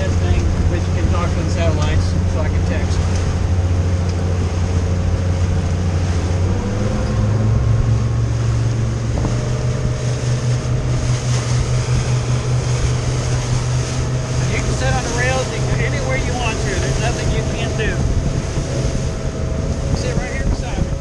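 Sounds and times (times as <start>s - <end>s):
motorboat engine running: 0.0s - 21.0s
wind and water rushing: 0.0s - 21.0s.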